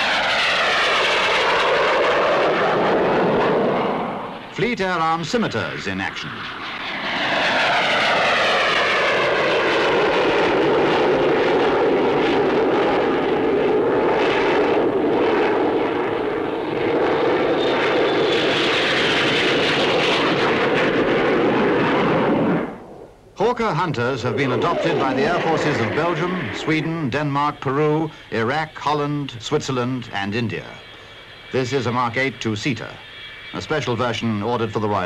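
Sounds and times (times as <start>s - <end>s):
jet fighters flying past: 0.0s - 35.0s.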